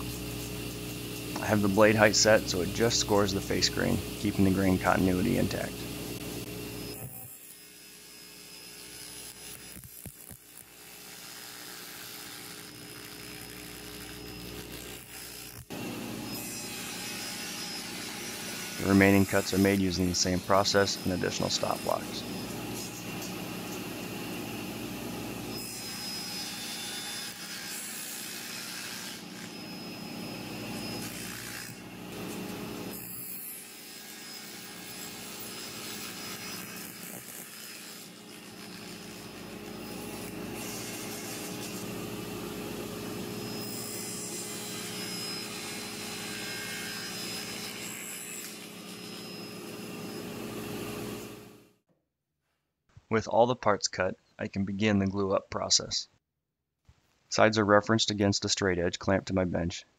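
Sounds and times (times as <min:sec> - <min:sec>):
table saw cutting wood: 0:00.0 - 0:51.8.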